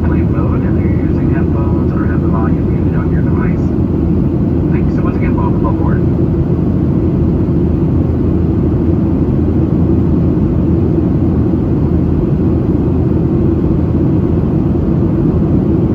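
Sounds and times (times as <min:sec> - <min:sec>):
airliner cabin rumble: 0:00.0 - 0:15.9.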